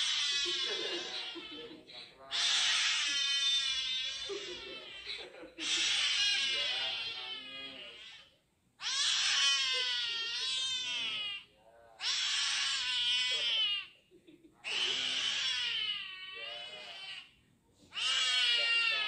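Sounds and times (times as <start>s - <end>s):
kitten wailing meows: 0.0s - 5.0s, 5.6s - 14.0s, 14.6s - 17.3s, 17.9s - 19.0s.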